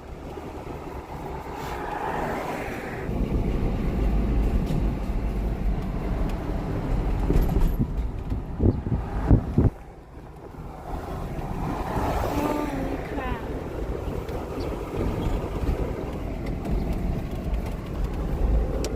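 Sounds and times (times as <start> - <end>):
car road noise: 0.0 - 18.9
deep wind rumble: 0.0 - 18.9.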